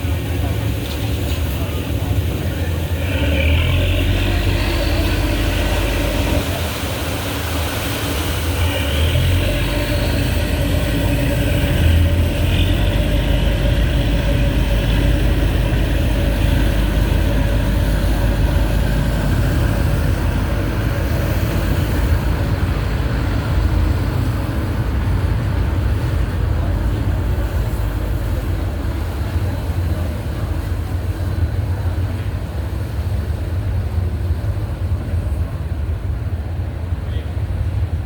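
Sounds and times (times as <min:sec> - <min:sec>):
ferry engine rumbling: 0:00.0 - 0:38.0.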